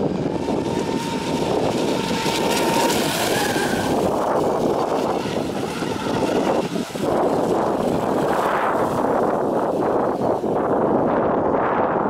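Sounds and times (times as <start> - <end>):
electric motor whining: 0.0 - 11.4
steady rush of noise: 0.0 - 12.0.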